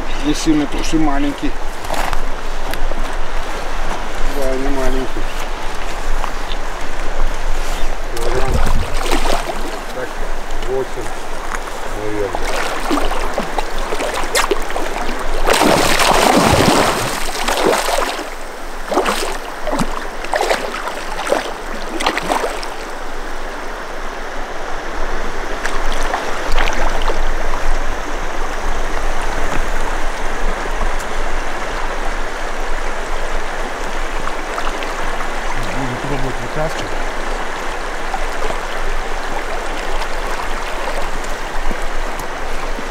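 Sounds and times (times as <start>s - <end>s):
water splashing: 0.0s - 23.8s, 25.5s - 27.6s, 33.4s - 42.9s
river current rushing: 0.0s - 42.9s.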